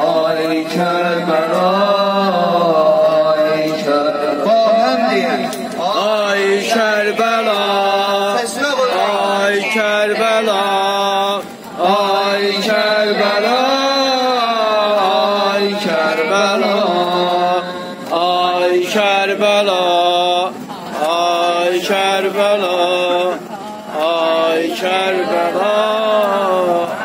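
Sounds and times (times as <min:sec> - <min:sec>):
man chanting a lament: 0:00.0 - 0:27.0.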